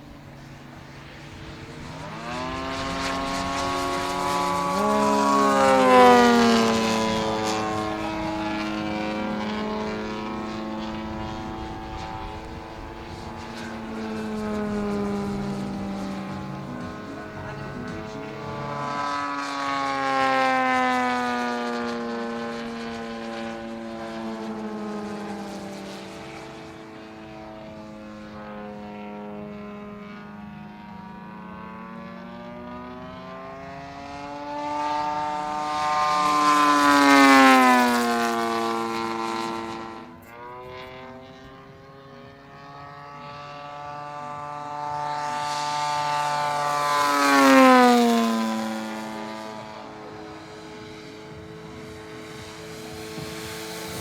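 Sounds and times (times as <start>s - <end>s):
model plane motor and propeller whine: 0.0s - 54.0s.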